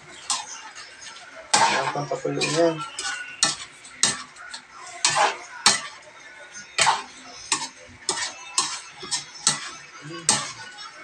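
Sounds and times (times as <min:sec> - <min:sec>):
metal spatula scraping a wok: 0:00.0 - 0:11.0.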